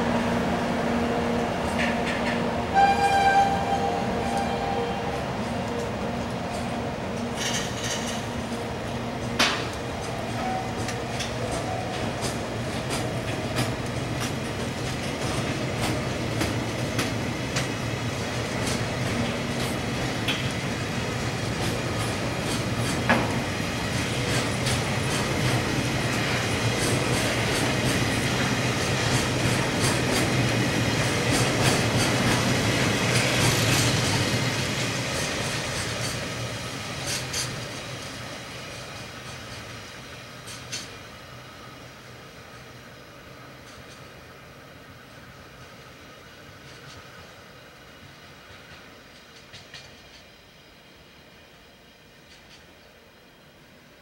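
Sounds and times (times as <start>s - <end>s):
freight train wheels clicking on rails: 1.3s - 3.5s, 5.1s - 51.0s, 51.7s - 53.2s.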